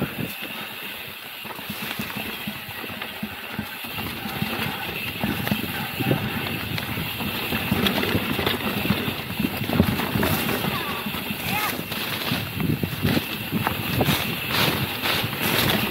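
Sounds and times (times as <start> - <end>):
bike rattling and knocking: 0.0 - 15.9
bike tyres rolling on trail: 0.0 - 15.9.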